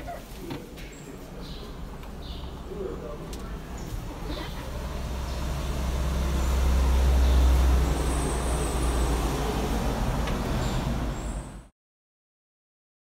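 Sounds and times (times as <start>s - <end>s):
heavy vehicle engine rumble: 0.0s - 11.7s.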